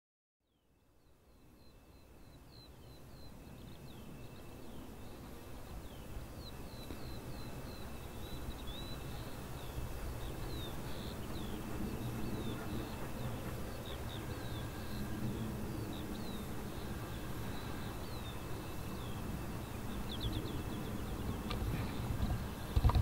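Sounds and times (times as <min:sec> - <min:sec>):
small birds chirping: 0:00.4 - 0:23.0.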